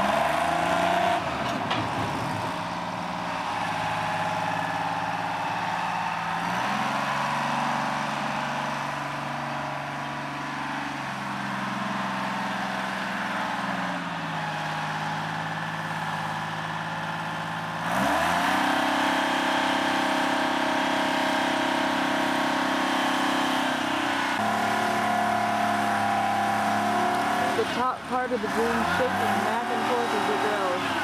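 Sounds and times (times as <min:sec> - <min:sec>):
digging machine engine under load: 0:00.0 - 0:31.0.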